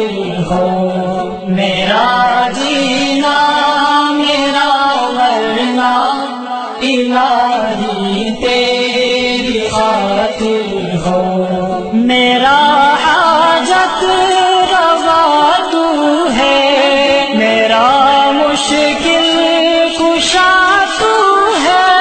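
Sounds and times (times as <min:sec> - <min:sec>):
person chanting devotional song: 0:00.0 - 0:22.0.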